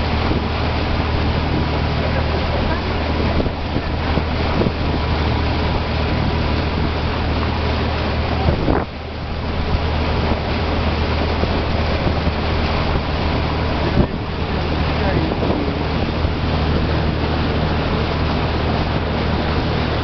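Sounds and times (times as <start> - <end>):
boat engine humming: 0.0 - 20.0
sea water rushing past hull: 0.0 - 20.0
wind on microphone: 0.0 - 20.0.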